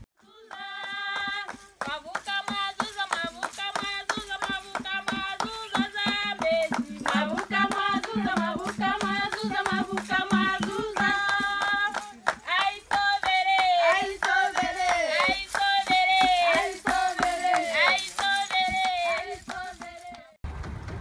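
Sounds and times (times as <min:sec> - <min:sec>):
women singing unaccompanied: 0:00.2 - 0:20.4
steady hand claps: 0:00.4 - 0:20.4.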